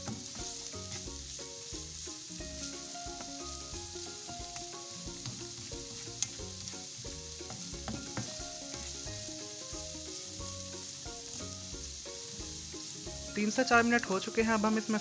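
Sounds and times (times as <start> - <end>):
food sizzling in oil: 0.0 - 15.0
soft background music: 0.0 - 15.0.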